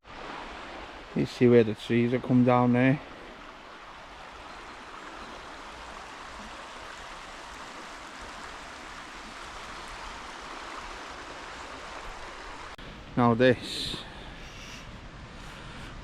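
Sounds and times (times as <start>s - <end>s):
river water and waterfall rushing: 0.0s - 14.8s.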